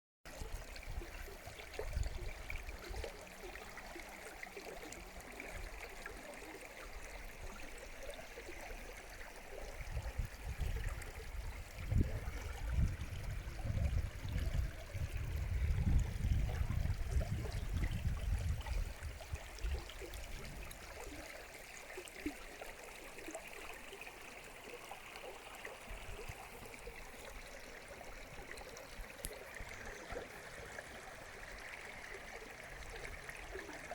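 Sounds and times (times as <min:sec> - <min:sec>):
stream water flowing: 0:00.3 - 0:33.9.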